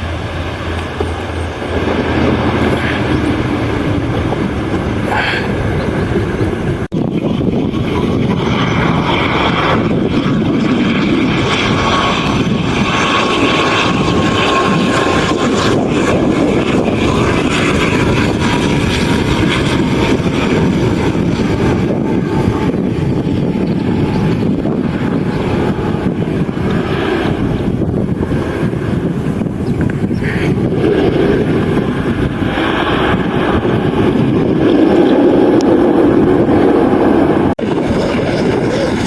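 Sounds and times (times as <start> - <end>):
airliner engines running: 0.0 - 39.0.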